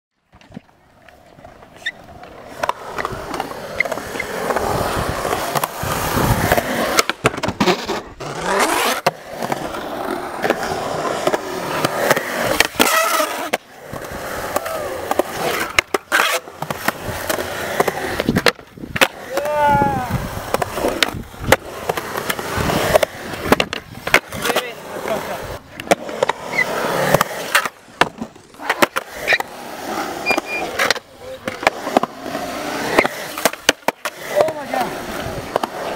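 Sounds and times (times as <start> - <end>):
skateboard wheels rolling on concrete: 0.2 - 35.9.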